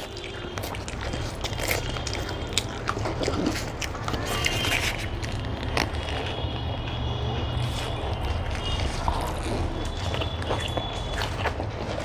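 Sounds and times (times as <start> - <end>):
mouth clicks and crackles: 0.0 - 12.0
people chewing egg rolls: 0.0 - 12.0.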